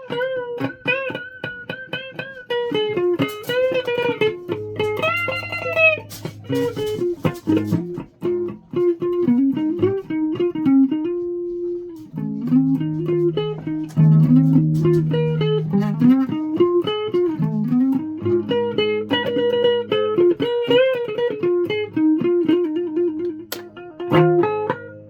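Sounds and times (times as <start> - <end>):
electric guitar plucked notes: 0.0 - 25.0.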